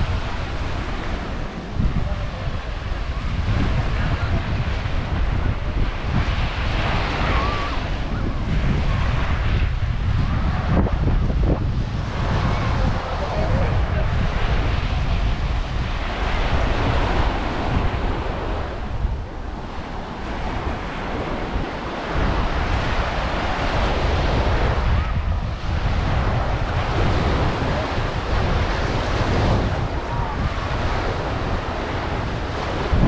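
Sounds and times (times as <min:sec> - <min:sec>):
surf washing onto beach: 0:00.0 - 0:33.0
wind rumbling on microphone: 0:00.0 - 0:33.0.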